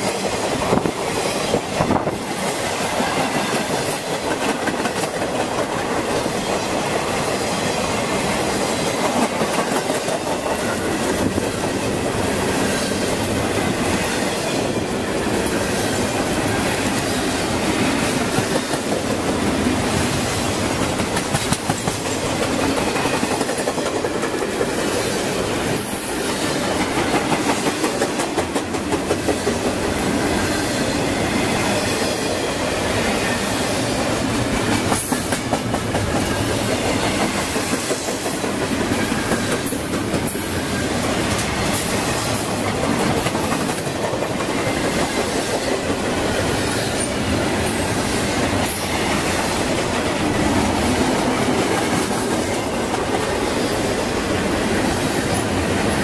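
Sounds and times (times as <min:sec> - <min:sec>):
rhythmic clickety-clack: 0:00.0 - 0:11.9, 0:15.3 - 0:25.1, 0:25.7 - 0:30.2, 0:34.5 - 0:53.9
freight train wheels rumbling: 0:00.0 - 0:56.0.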